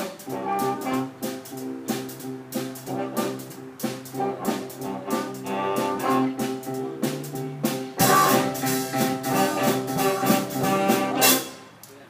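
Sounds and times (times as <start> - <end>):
band playing brass and drums: 0.0 - 11.8.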